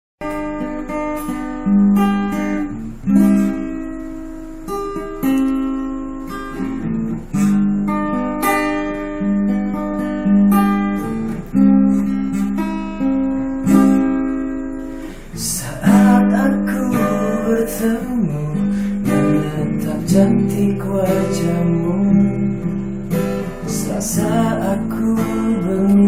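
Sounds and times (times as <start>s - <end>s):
acoustic guitar strumming chords: 0.2s - 26.0s.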